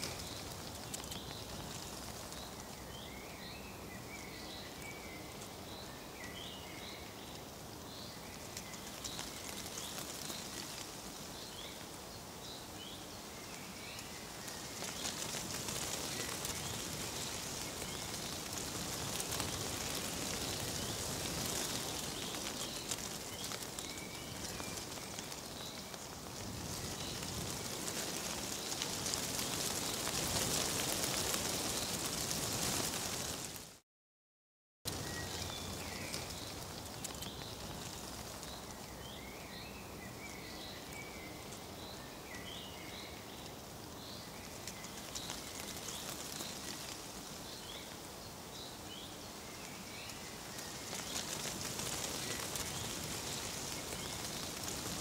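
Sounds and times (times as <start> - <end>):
small birds chirping: 0.0 - 33.5, 34.9 - 55.0
dry leaves rustling: 0.0 - 33.8, 34.9 - 55.0.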